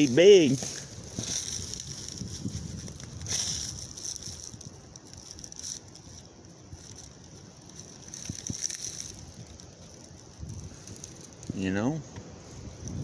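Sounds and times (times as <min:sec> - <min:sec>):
dry leaves crunching underfoot: 0:00.0 - 0:13.0
steady high hiss: 0:00.0 - 0:13.0
twigs snapping: 0:00.0 - 0:13.0.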